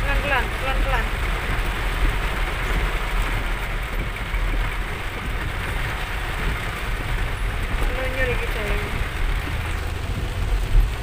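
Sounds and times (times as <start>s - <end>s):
engine and tyre noise: 0.0s - 11.0s
heavy rain on a car roof: 0.0s - 11.0s.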